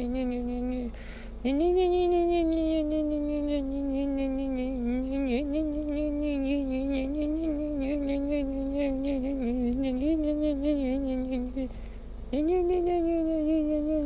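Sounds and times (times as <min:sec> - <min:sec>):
person humming a held note: 0:00.0 - 0:14.0.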